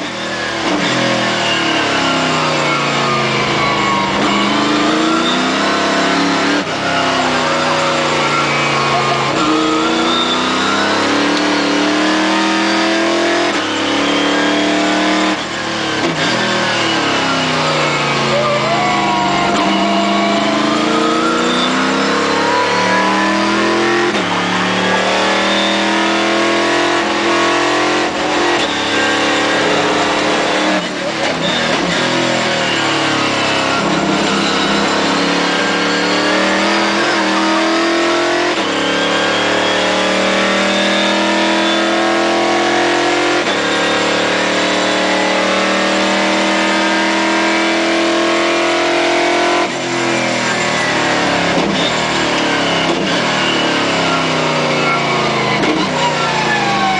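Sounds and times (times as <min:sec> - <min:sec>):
race car engine at full throttle: 0:00.0 - 0:56.9.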